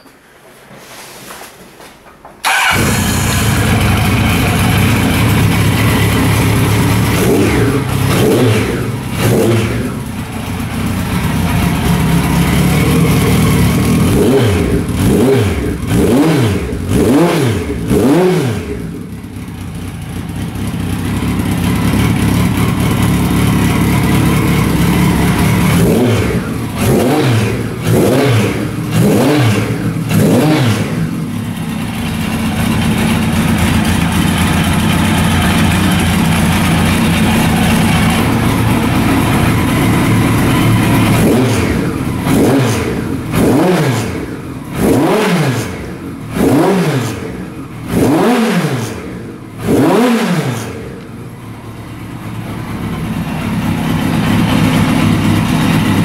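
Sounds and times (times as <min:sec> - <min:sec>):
motorcycle engine idling: 0:02.4 - 0:46.4, 0:47.1 - 0:48.0, 0:48.8 - 0:50.0, 0:50.6 - 0:56.0
motorcycle throttle revs: 0:02.4 - 0:56.0.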